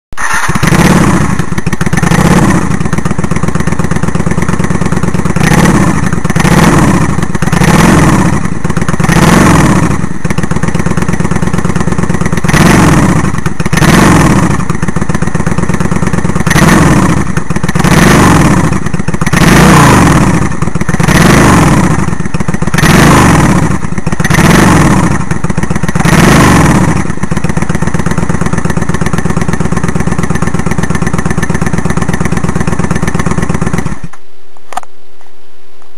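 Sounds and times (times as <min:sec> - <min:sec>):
motorcycle engine idling and revving: 0:00.1 - 0:35.2.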